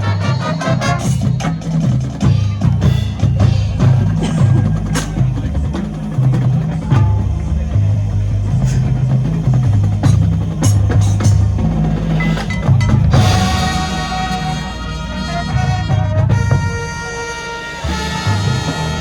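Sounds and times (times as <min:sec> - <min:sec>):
drums striking: 0:00.0 - 0:19.0
marching band playing: 0:00.0 - 0:19.0.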